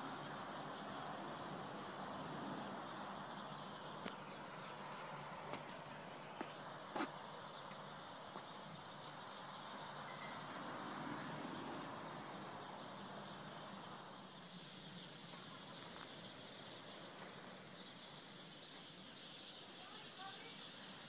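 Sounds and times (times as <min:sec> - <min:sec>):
flock of birds chattering: 0:00.0 - 0:21.0.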